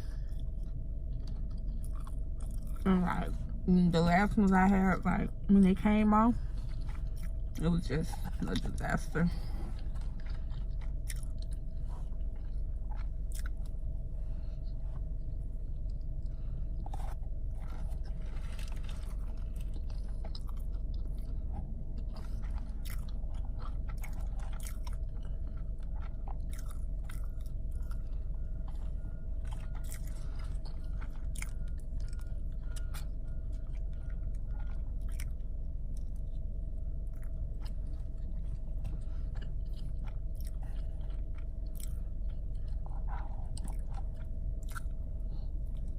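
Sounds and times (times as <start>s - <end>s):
person chewing and biting food: 0.0s - 2.9s, 6.6s - 7.6s, 9.4s - 45.9s
low hum: 0.0s - 45.9s.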